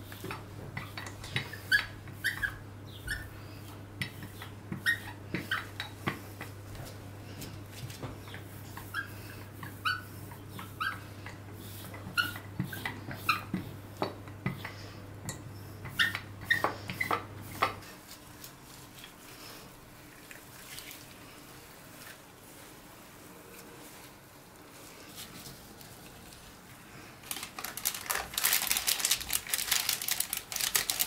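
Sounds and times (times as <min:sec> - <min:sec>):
soft dough handling sounds: 0:00.0 - 0:31.0.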